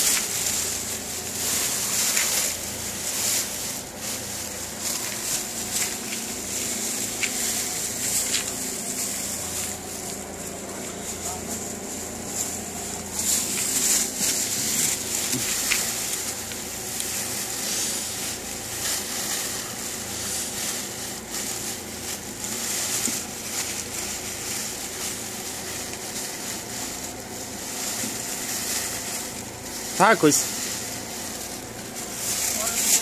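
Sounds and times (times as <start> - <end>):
plastic-wrapped bales crinkling: 0.0 - 33.0.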